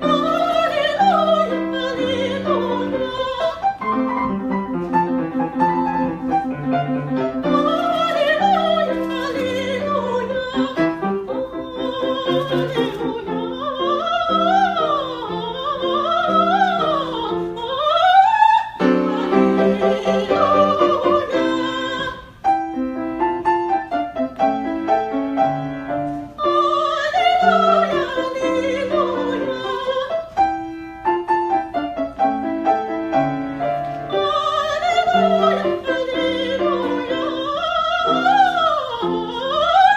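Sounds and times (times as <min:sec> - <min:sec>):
piano accompaniment: 0:00.0 - 0:39.9.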